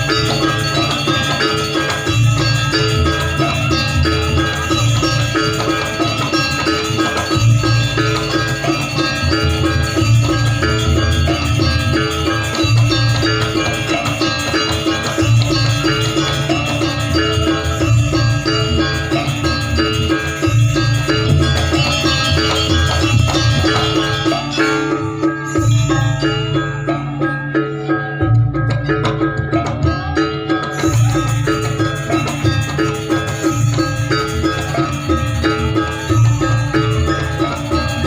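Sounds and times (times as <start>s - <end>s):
drums: 0.0s - 38.0s
metallophones playing fast pattern: 0.0s - 38.0s.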